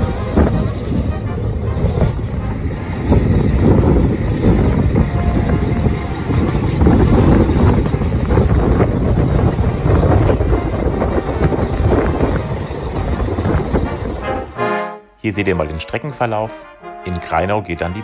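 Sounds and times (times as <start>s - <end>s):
wind rushing over microphone: 0.0s - 14.8s
train running rumble: 0.0s - 15.9s.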